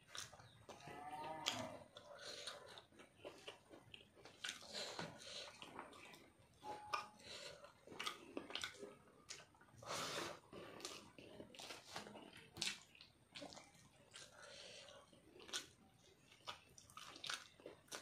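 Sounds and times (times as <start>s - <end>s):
man chewing food: 0.0s - 18.0s.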